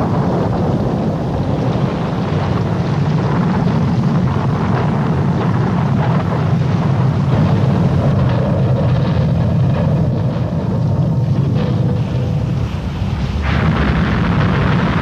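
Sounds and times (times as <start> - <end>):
aircraft low rumble: 0.0 - 15.0
wind noise on microphone: 0.0 - 15.0.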